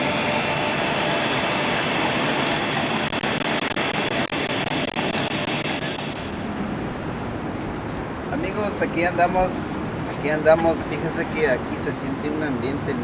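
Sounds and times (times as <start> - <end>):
heavy traffic rushing: 0.0 - 13.0.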